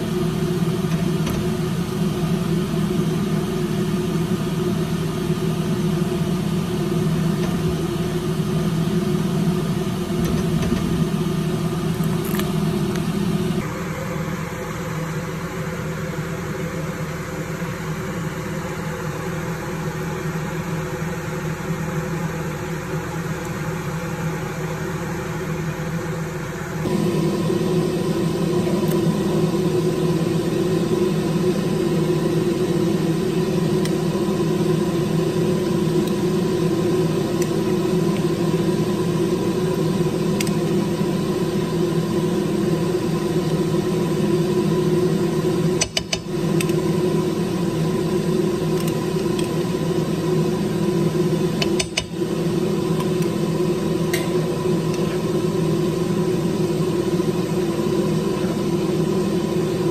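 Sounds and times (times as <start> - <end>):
extractor fan humming: 0.0 - 59.9.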